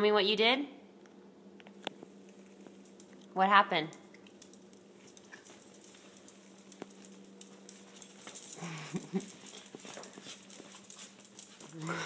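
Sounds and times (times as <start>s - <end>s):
steady low hum: 0.0s - 12.0s
dog claws clicking on tile: 1.8s - 12.0s.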